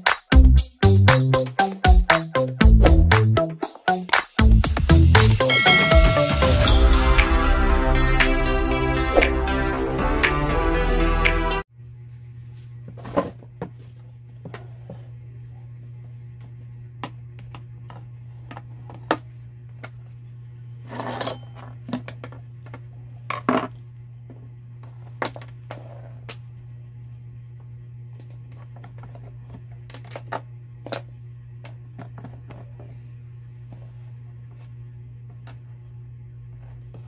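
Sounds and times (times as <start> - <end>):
steady low hum: 4.4 - 37.0.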